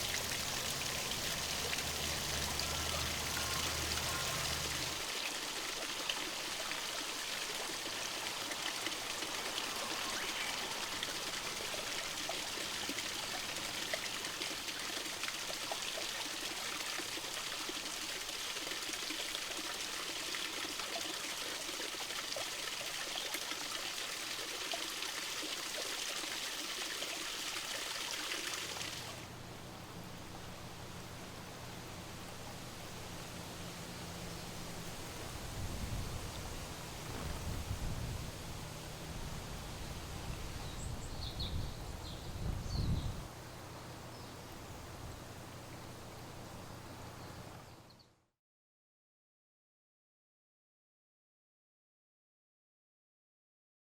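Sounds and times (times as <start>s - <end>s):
water trickling in a stream: 0.0s - 42.3s, 42.9s - 48.1s.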